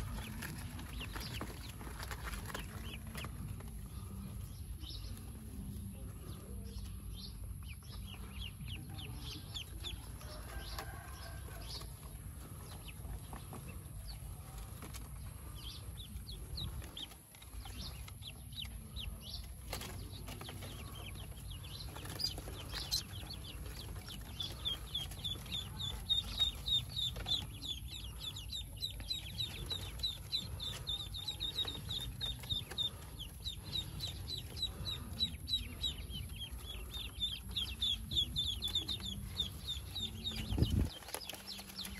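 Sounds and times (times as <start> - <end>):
ducklings peeping: 0.0 - 41.9.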